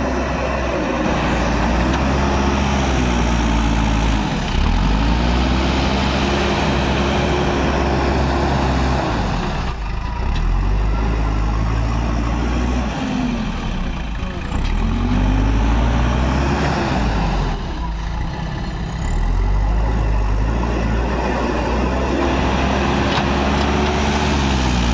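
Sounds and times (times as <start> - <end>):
diesel engine working under load: 0.0 - 24.9.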